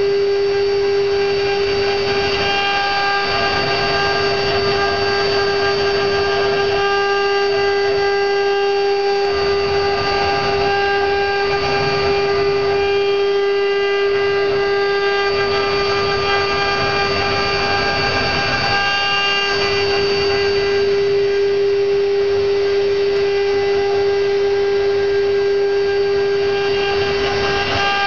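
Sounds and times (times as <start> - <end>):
bit cutting wood: 0.0 - 28.0
router spindle whining: 0.0 - 28.0.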